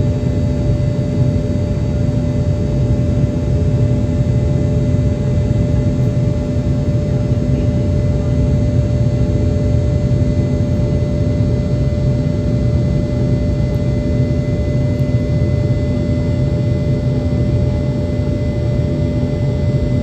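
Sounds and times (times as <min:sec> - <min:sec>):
jet engine whine: 0:00.0 - 0:20.0
jet engines deep hum: 0:00.0 - 0:20.0.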